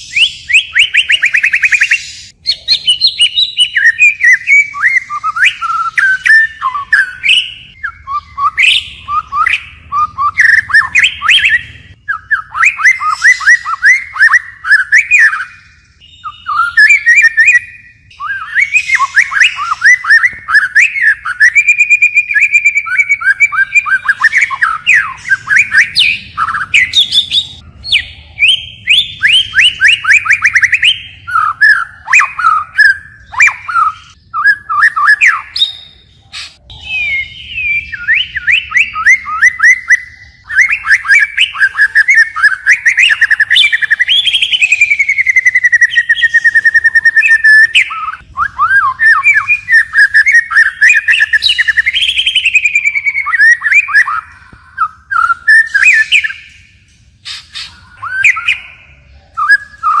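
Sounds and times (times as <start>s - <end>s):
songbird singing whistled phrases: 0.0s - 60.0s.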